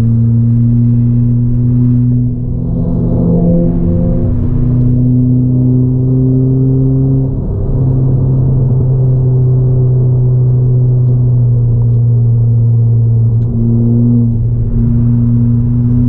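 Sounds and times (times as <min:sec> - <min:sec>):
car engine heard from cabin: 0:00.0 - 0:16.0.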